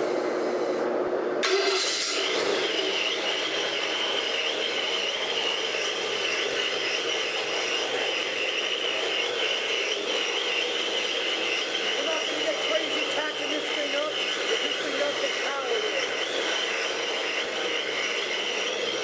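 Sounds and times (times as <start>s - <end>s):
engine idling: 1.4s - 19.0s.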